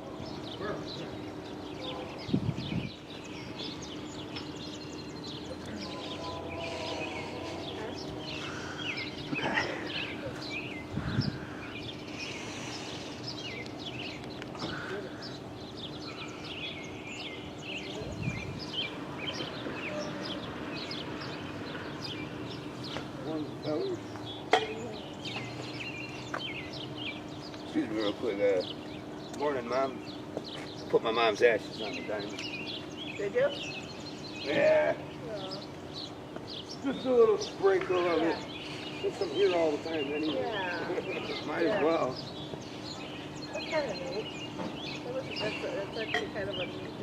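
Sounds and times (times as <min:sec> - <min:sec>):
small birds chirping: 0:00.0 - 0:47.0
steady low hum: 0:00.0 - 0:47.0.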